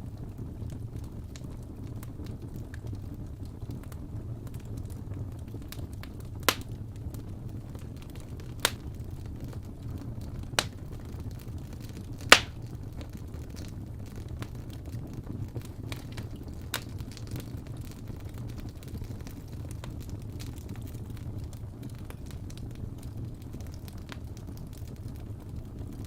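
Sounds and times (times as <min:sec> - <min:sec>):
crackles and pops of burning logs: 0:00.0 - 0:26.0
low rumble of flames: 0:00.0 - 0:26.0.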